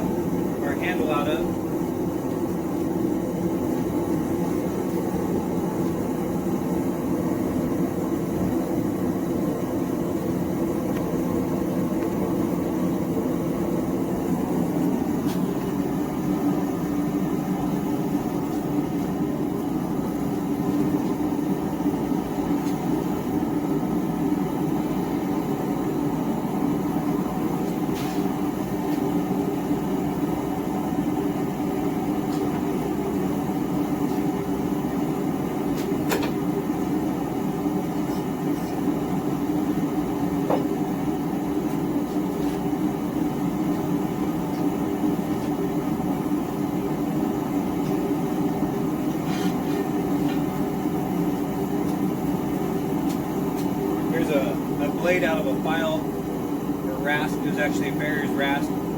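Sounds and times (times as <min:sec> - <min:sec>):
gas burner rushing: 0:00.0 - 0:58.9.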